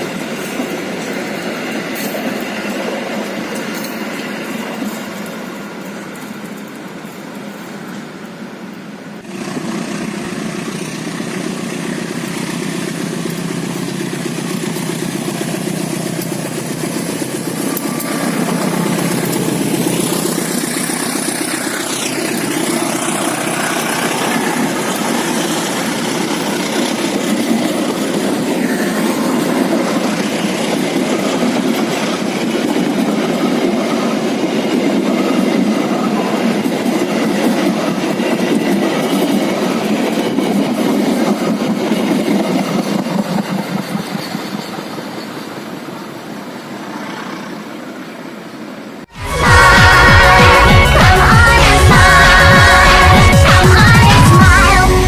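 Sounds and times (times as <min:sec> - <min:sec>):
train passing on rails: 0:00.0 - 0:55.0.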